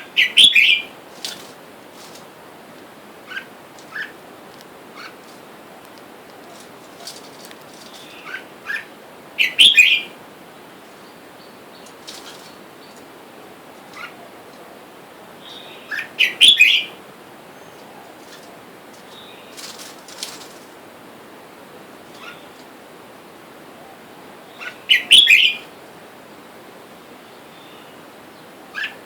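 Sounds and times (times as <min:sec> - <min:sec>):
bulbuls calling: 0:00.0 - 0:20.8, 0:21.7 - 0:23.0, 0:23.6 - 0:25.9, 0:27.4 - 0:29.0.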